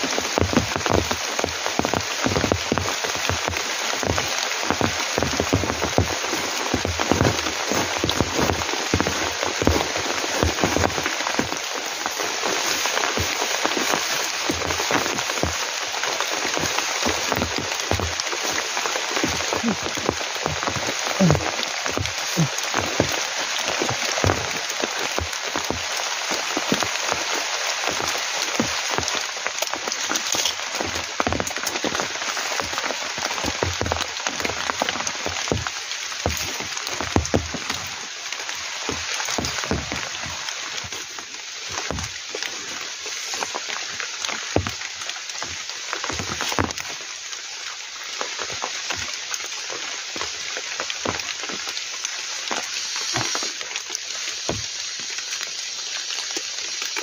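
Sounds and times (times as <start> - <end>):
heavy rain drumming on a tent: 0.0 - 57.0.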